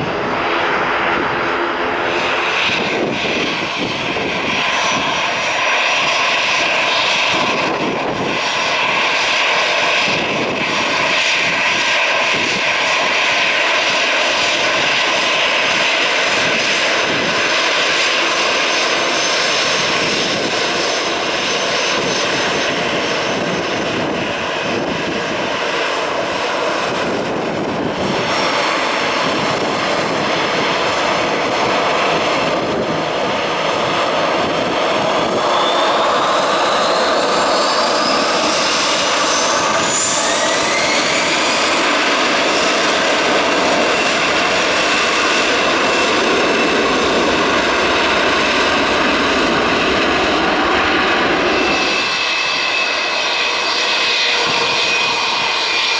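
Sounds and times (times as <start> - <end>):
jet engine whine: 0.0 - 55.9
jet engines roaring: 0.0 - 55.9.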